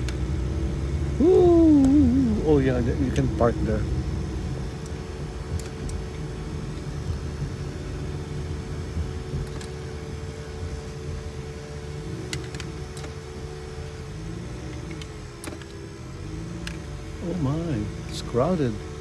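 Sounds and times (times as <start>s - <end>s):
car engine and tyres rumbling: 0.0s - 19.0s
steady hum: 0.0s - 19.0s.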